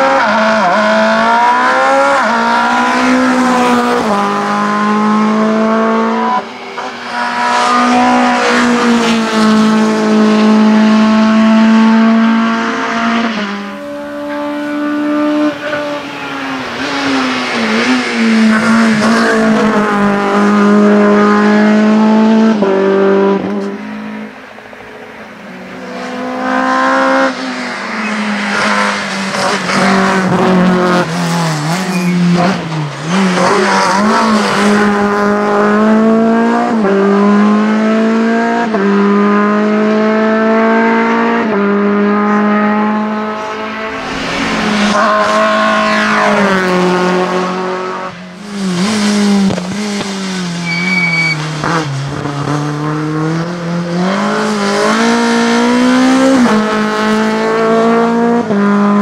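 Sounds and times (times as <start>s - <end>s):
race car engine revving: 0.0s - 24.4s, 25.7s - 59.0s.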